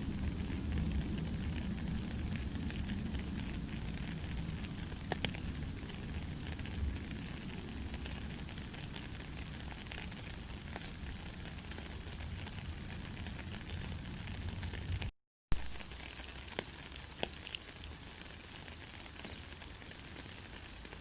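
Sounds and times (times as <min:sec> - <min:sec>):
faint crackles: 0:00.0 - 0:21.0.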